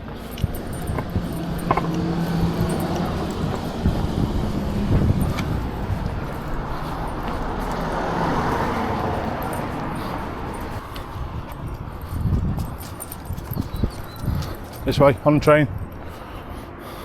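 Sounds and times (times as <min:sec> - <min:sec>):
low rumble: 0:00.0 - 0:14.8
vehicle passing: 0:00.0 - 0:17.0.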